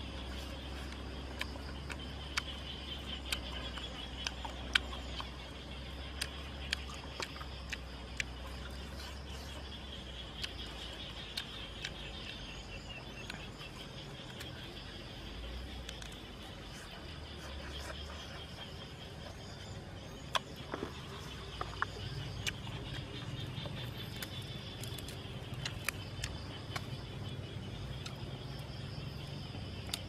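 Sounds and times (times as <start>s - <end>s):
biting and chewing meat: 0.0s - 30.0s.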